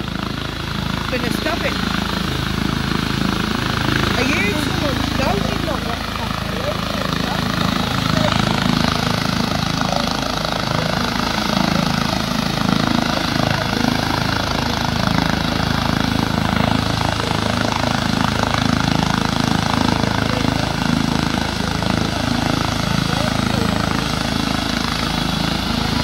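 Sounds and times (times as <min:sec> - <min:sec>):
helicopter turbines and rotor: 0:00.0 - 0:26.0.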